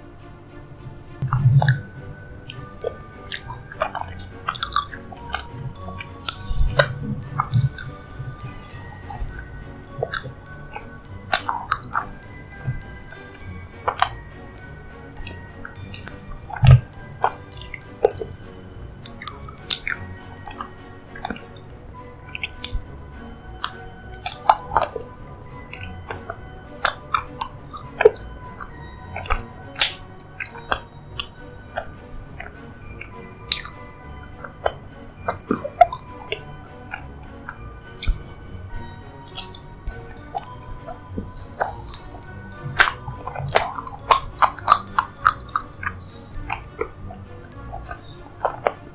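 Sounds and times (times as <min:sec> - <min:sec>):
quiet background music: 0:00.0 - 0:48.9
mouth chewing soft dessert: 0:01.2 - 0:48.9.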